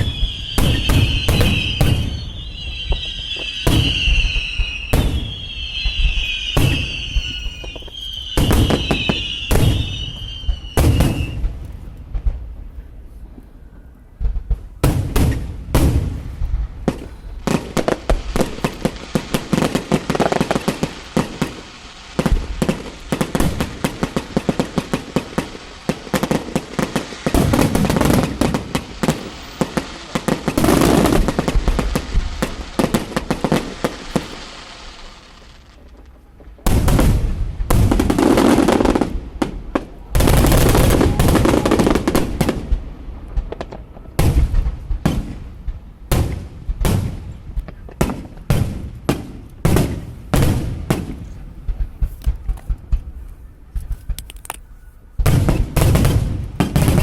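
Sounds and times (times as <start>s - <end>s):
firework shell bursts and crackling: 0.0s - 12.5s, 14.6s - 53.2s, 53.8s - 57.0s.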